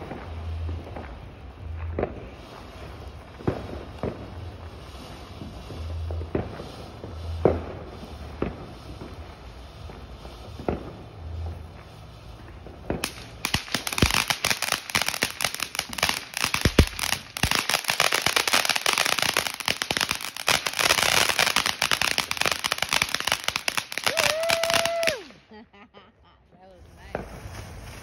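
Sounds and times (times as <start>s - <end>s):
firework fountain crackling: 0.0s - 28.0s.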